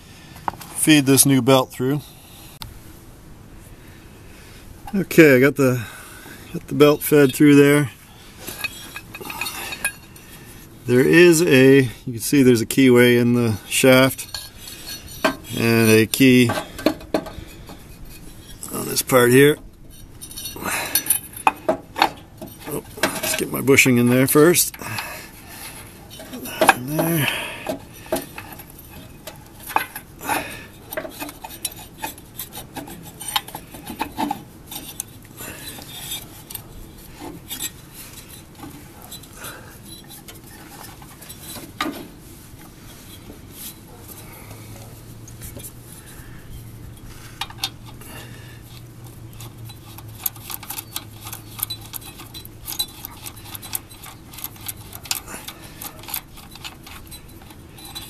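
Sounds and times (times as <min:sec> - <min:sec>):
metal tools clinking and scraping: 0:04.9 - 0:58.0.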